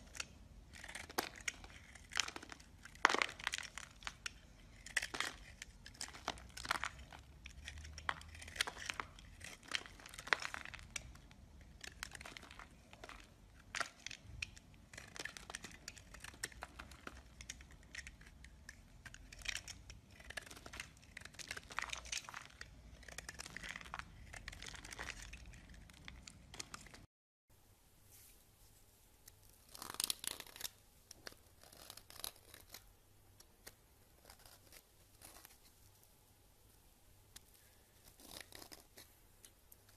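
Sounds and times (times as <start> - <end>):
knife scraping soap: 0.0 - 27.1, 29.6 - 32.9, 33.6 - 35.8, 37.4 - 39.9.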